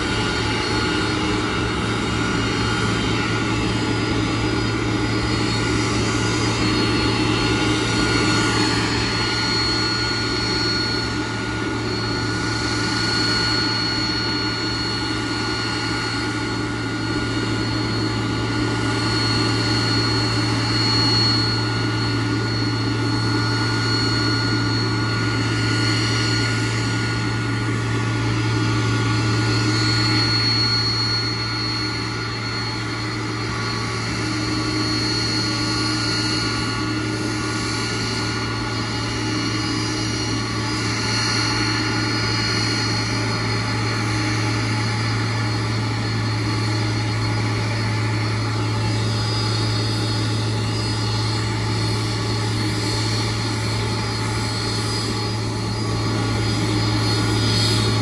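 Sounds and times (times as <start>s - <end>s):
aircraft low hum: 0.0s - 58.0s
high whine: 0.0s - 58.0s.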